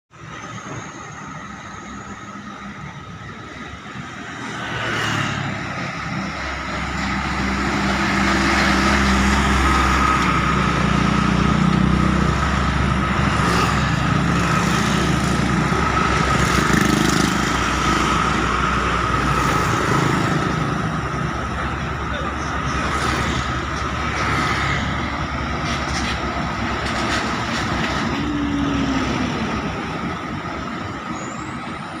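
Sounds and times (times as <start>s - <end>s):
heavy truck engines rumbling: 0.1s - 32.0s.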